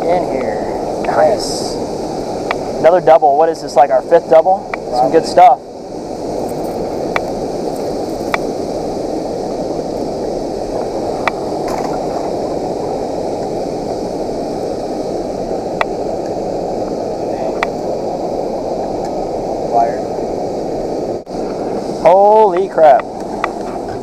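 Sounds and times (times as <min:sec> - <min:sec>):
water rushing over dam: 0:00.0 - 0:24.0.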